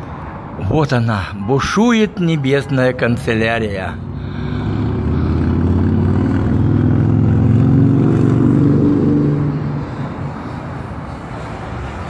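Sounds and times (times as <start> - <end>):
passing vehicle engine drone: 0.0 - 12.0.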